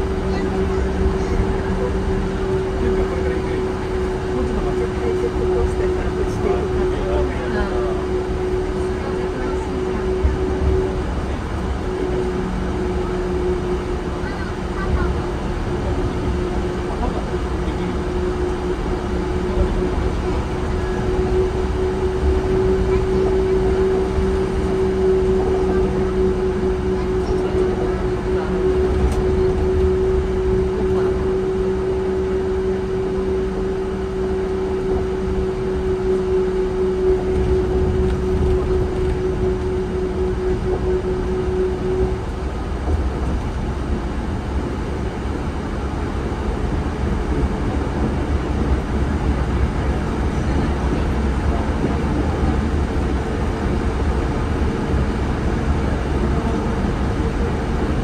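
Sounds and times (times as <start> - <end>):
held whine: 0.0 - 58.0
higher steady whine: 0.0 - 58.0
train rolling rumble: 0.0 - 58.0.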